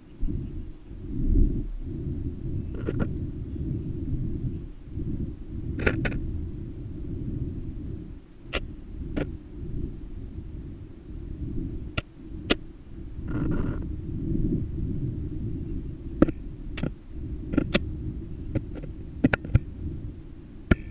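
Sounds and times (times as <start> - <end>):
low muffled rumble: 0.0 - 20.9.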